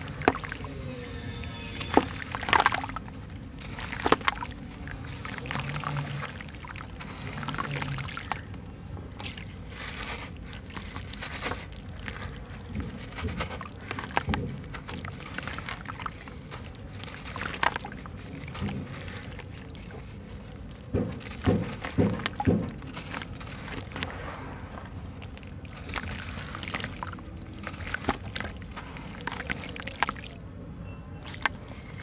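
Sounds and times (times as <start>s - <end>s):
wet sand-cement crumbling: 0.0s - 30.5s, 31.2s - 32.0s
water sloshing: 0.0s - 32.0s.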